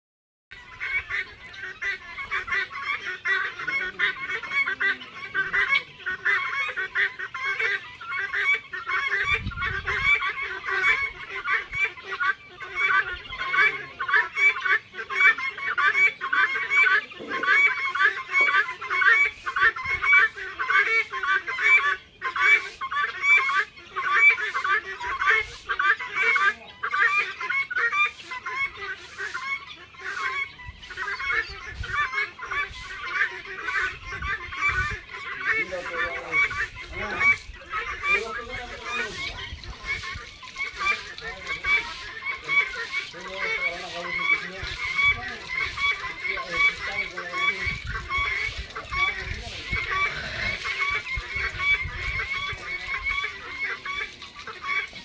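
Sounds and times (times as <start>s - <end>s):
guineafowl flock calling: 0.5s - 55.0s.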